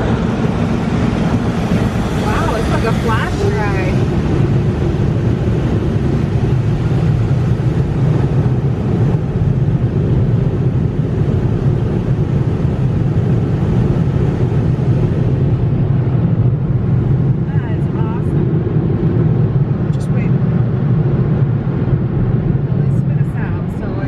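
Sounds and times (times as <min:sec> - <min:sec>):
car wash machinery roar: 0:00.0 - 0:24.0.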